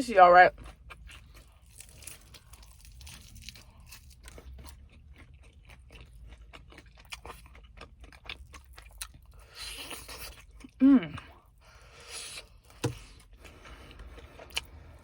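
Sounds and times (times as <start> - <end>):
crunching and chewing food: 0.2 - 15.0.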